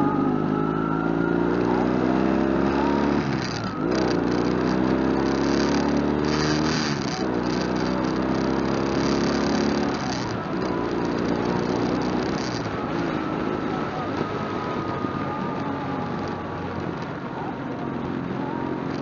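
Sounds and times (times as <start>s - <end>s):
motorcycle engine running: 0.0s - 19.0s
road noise: 0.0s - 19.0s.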